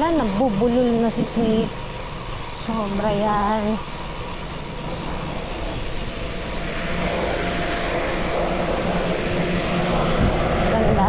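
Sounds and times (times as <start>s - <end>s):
bicycle road noise: 0.0s - 11.0s
faint engine drone: 0.0s - 11.0s
rushing wind: 0.0s - 11.0s.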